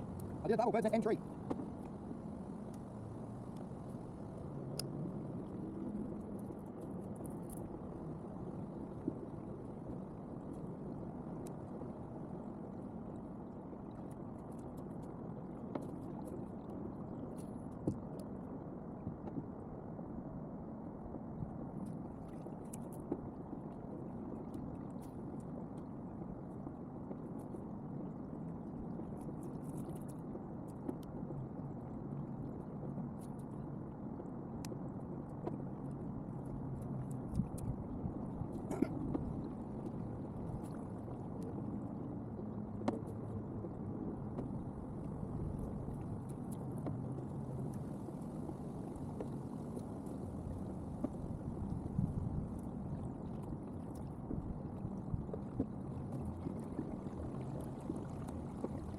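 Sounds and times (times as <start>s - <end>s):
wind on microphone: 0.0s - 58.9s.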